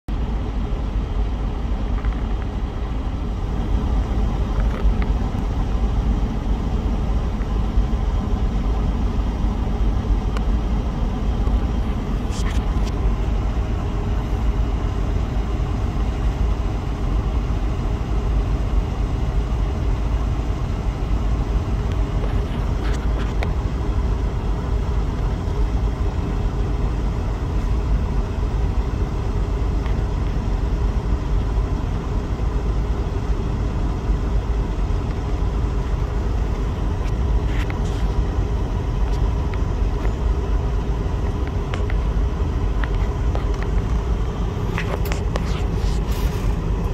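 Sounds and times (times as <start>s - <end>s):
vehicle engine idling: 0.1s - 46.9s.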